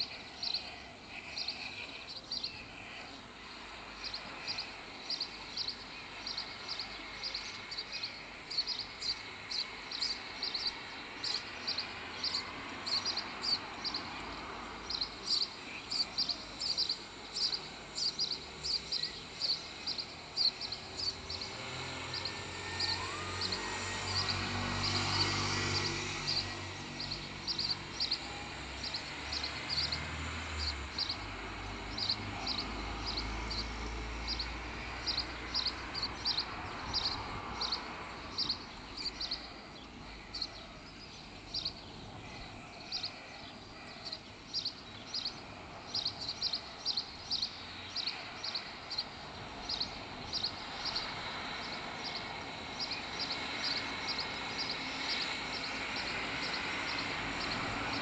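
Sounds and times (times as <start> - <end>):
outdoor background noise: 0.0 - 58.0
songbird chirping: 0.0 - 58.0.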